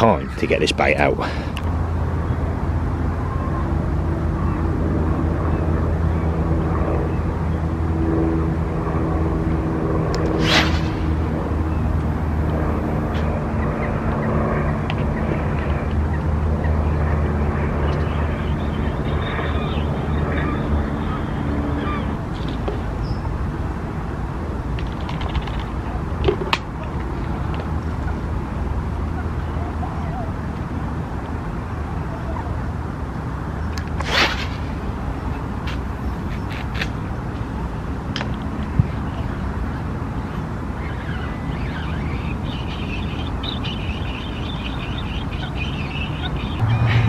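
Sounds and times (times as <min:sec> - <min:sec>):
low outdoor rumble: 0:00.0 - 0:42.3, 0:43.0 - 0:47.0.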